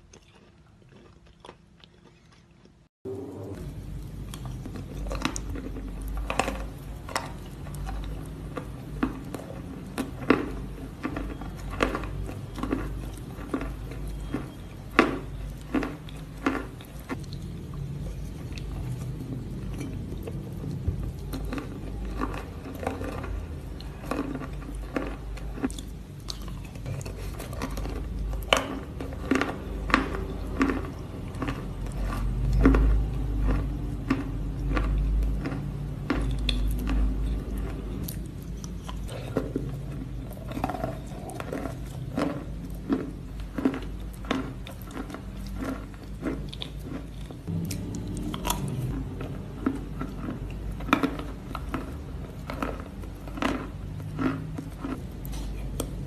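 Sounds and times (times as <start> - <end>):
low hum: 3.1 - 56.0.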